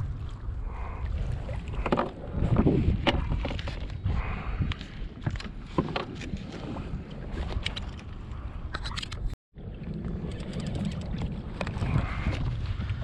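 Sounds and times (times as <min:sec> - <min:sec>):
wind buffeting microphone: 0:00.0 - 0:08.7, 0:09.6 - 0:13.0.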